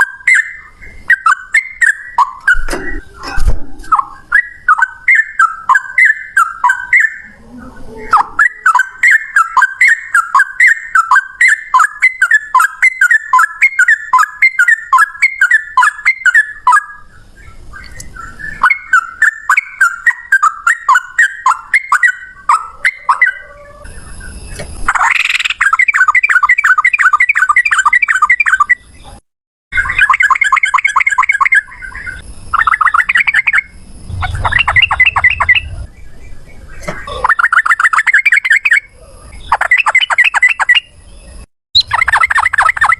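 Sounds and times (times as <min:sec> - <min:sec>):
bulbuls calling in rolling series: 0:00.0 - 0:42.9.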